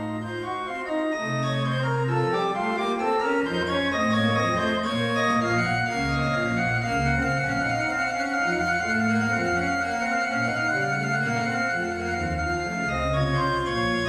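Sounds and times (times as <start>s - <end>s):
pipe organ playing: 0.0s - 14.0s.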